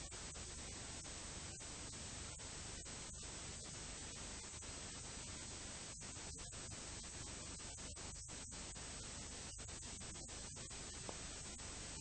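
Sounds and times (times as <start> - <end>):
tape hiss: 0.0 - 12.0.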